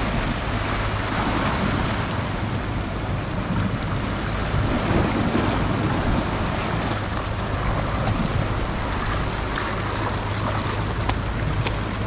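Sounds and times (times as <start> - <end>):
sea surf surging against rocks: 0.0 - 12.0
wind buffeting microphone: 0.0 - 12.0.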